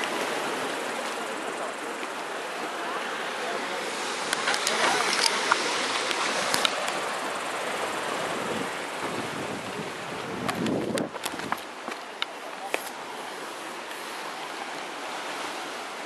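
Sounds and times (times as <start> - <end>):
sea washing on shore: 0.0 - 16.0.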